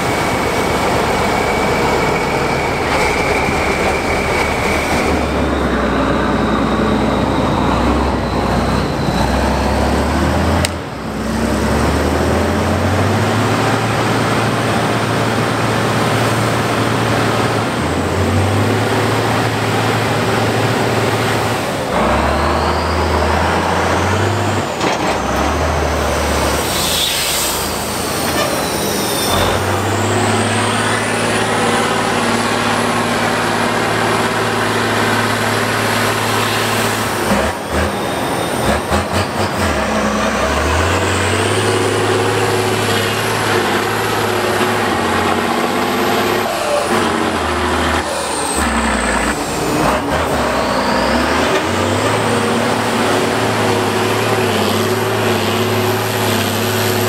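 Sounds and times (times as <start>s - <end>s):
diesel truck engine revving: 0.0s - 57.0s.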